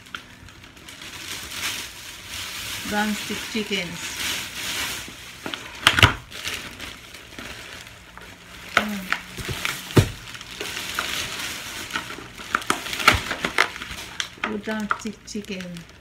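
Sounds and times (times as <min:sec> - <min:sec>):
plastic bags rustling: 0:00.0 - 0:16.0.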